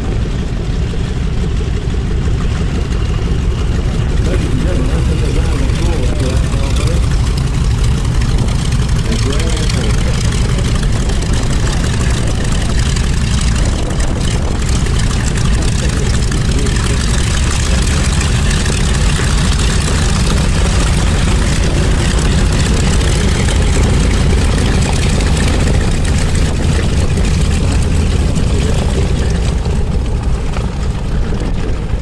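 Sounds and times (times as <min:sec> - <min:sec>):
propeller plane engine droning: 0:00.0 - 0:32.0.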